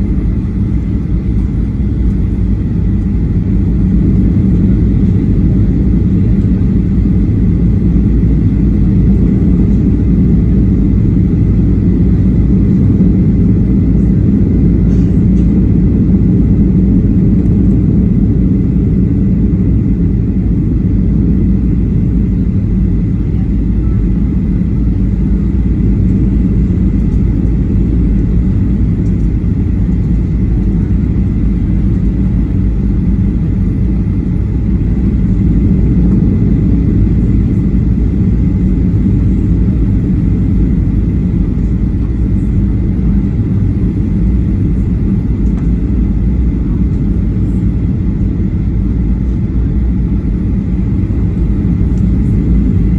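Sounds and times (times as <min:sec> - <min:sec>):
airplane cabin rumble: 0:00.0 - 0:52.9
thin steady whine: 0:00.0 - 0:52.9.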